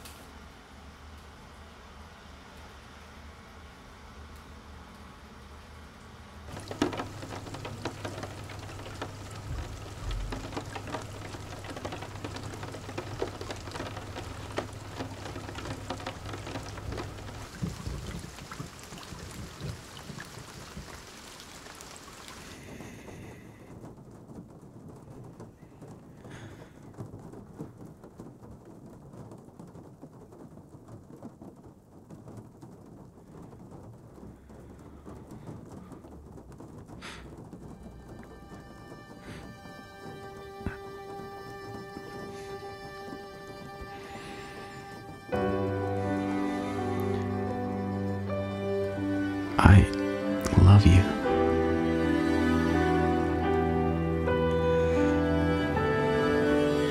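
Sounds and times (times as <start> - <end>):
rain pattering on car roof: 0.0 - 56.9.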